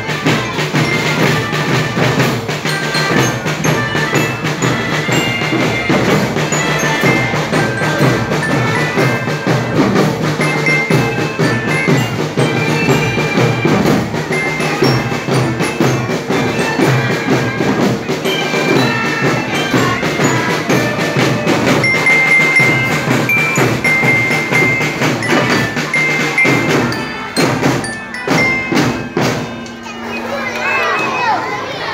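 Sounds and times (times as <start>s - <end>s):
marching glockenspiel melody: 0.0s - 31.9s.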